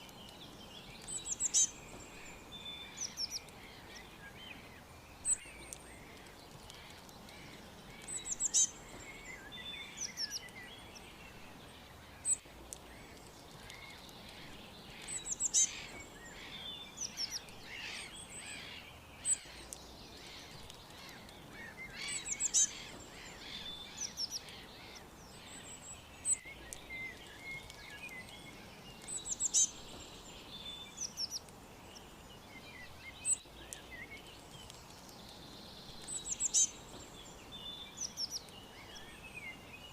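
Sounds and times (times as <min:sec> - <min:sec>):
faint background hiss: 0:00.0 - 0:39.9
songbirds chirping: 0:00.0 - 0:39.9.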